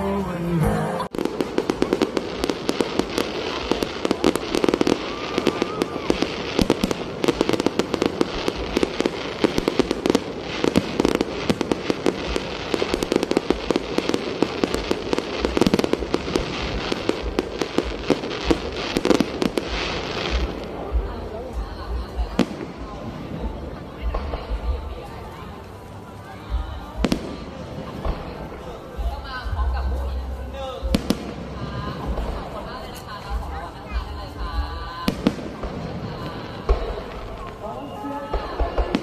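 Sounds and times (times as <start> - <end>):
fireworks popping and crackling: 0.0 - 39.0.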